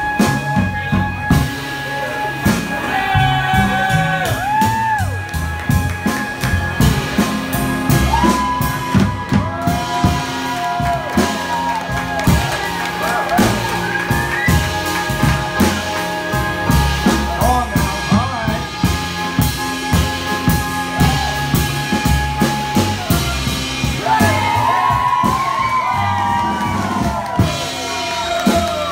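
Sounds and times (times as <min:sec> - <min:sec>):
band with drums playing: 0:00.0 - 0:28.9.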